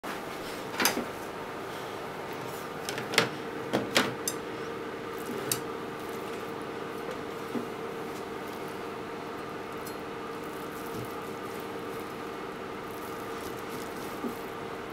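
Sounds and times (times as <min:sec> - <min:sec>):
steady low hum: 0:00.1 - 0:14.9.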